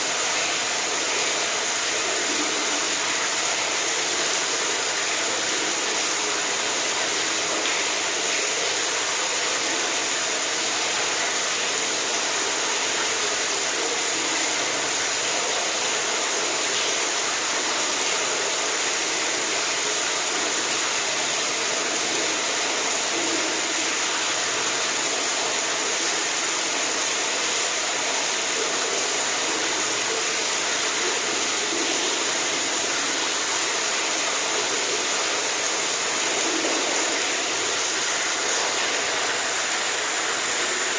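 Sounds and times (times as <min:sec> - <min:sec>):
rushing water hiss: 0:00.0 - 0:40.9.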